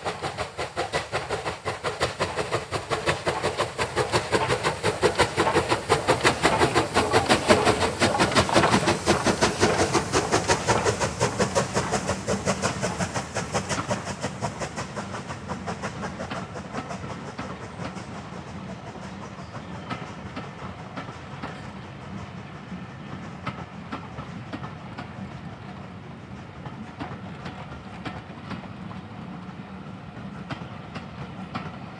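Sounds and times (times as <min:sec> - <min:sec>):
steam locomotive chuffing: 0:00.0 - 0:31.9
train wheels rumbling and clicking: 0:00.0 - 0:31.9.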